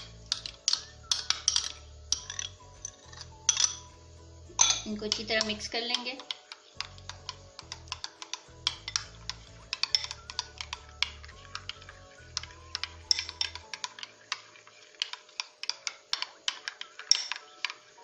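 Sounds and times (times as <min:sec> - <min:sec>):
spoon scraping glass bowl: 0:00.0 - 0:04.0, 0:06.9 - 0:17.8.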